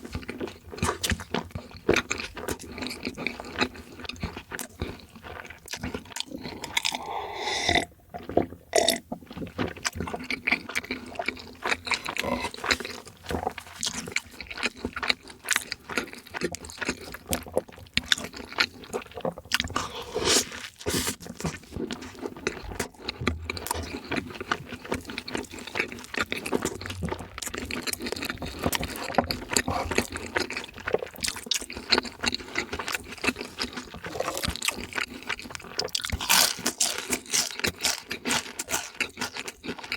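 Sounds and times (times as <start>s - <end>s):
person chewing wetly: 0.0s - 39.9s
food crunching: 0.1s - 39.9s.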